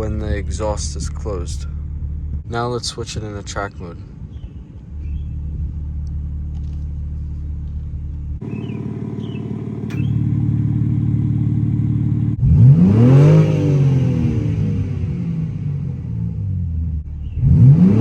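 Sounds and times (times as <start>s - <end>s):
car engine idling and revving: 0.0s - 2.5s, 4.4s - 18.0s.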